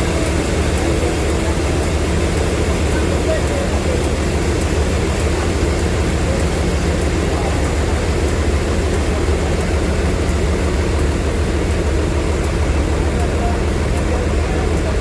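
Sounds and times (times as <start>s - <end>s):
sawmill machinery droning: 0.0s - 15.0s.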